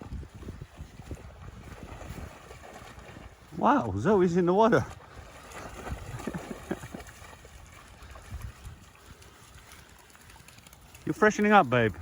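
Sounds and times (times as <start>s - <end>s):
dog splashing in shallow water: 0.0s - 11.9s.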